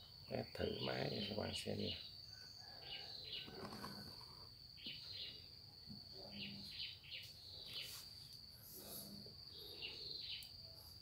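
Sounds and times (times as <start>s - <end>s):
birds chirping: 0.0s - 11.0s
insects trilling: 0.0s - 11.0s.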